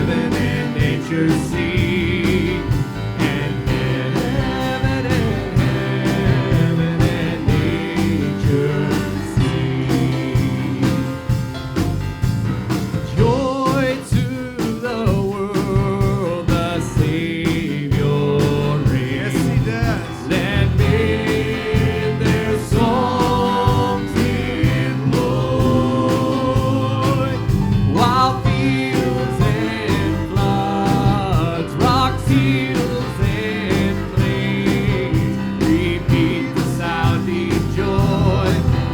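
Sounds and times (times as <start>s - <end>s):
person singing: 0.0s - 11.5s, 13.1s - 38.9s
live band playing gospel song: 0.0s - 38.9s.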